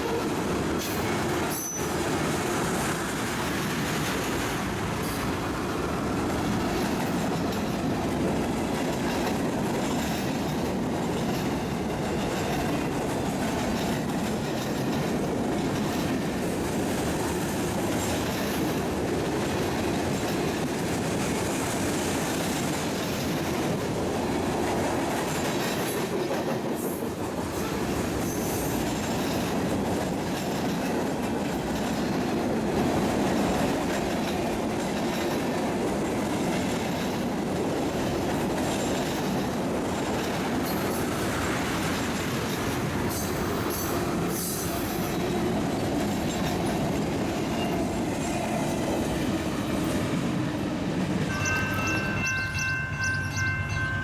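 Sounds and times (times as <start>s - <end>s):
railroad wheels clicking over joints: 0.0s - 54.0s.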